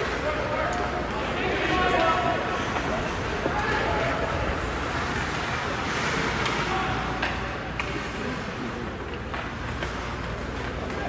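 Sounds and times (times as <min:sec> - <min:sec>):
arena noise: 0:00.0 - 0:11.0.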